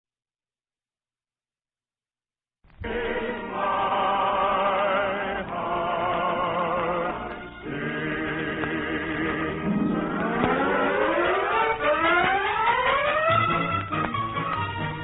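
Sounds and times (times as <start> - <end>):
choir singing on old radio: 2.7 - 15.0.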